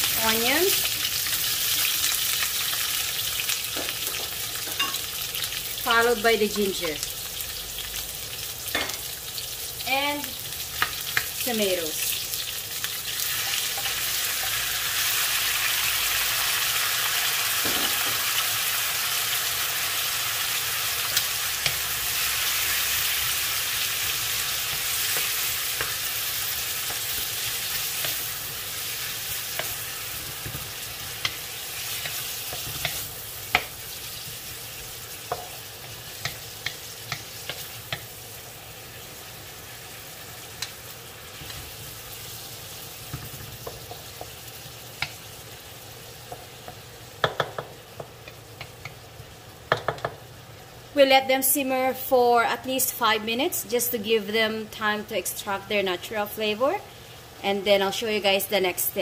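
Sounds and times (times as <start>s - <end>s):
vegetables sizzling in hot oil: 0.0s - 59.0s.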